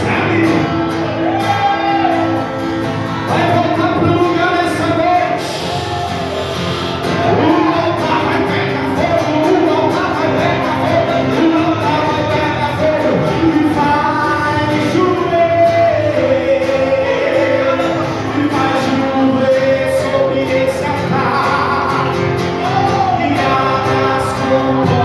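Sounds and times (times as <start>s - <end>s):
music with singing: 0.0s - 25.0s.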